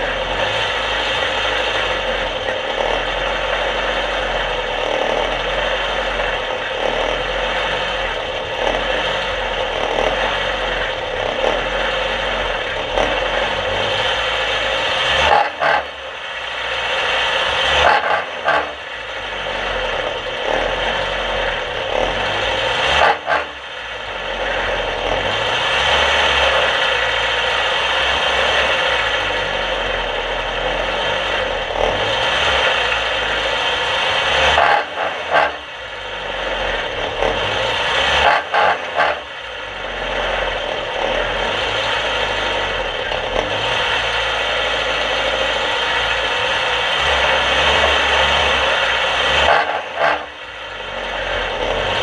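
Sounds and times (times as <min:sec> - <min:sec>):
race car engine idling: 0:00.0 - 0:52.0.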